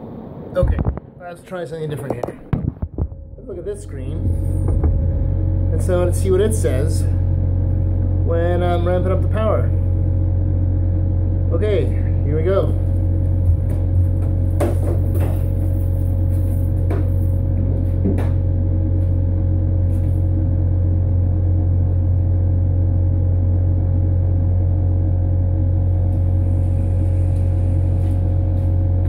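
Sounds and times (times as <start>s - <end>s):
inverter humming: 0.0s - 29.0s.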